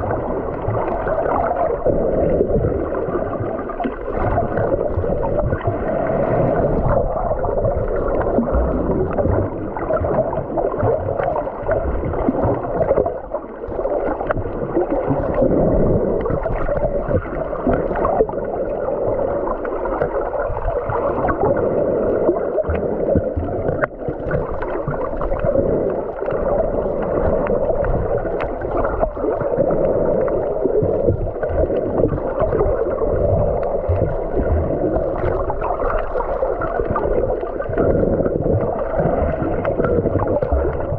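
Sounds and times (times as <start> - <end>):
underwater low hum: 0.0 - 40.9.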